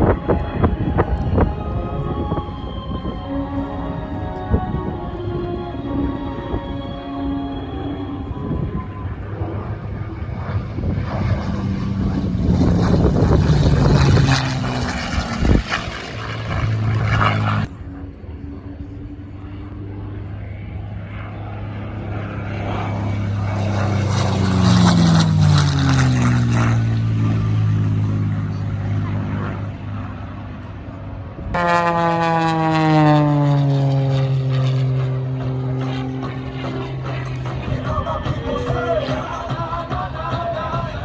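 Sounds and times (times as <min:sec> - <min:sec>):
propeller airplane flying past: 0:00.0 - 0:41.0.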